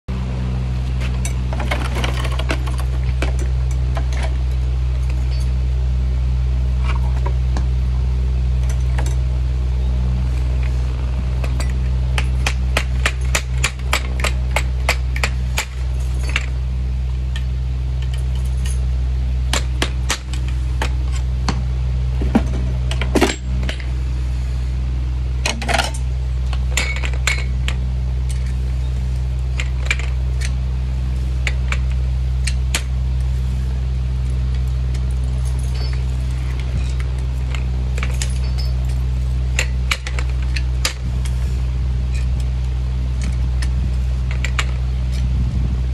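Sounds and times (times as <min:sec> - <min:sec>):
steady low hum: 0:00.1 - 0:45.9.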